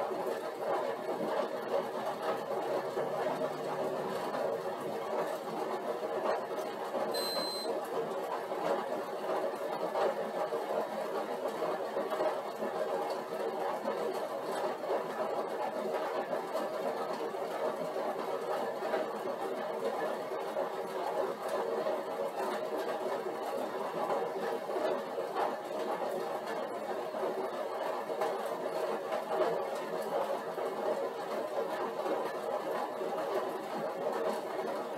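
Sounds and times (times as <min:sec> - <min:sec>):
exercise bike running: 0:00.0 - 0:34.9.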